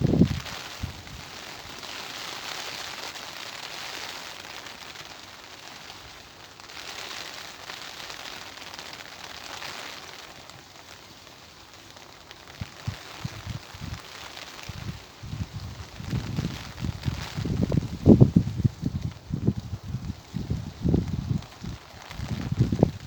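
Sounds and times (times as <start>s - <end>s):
rain falling: 0.0s - 23.0s
wind: 0.0s - 23.0s.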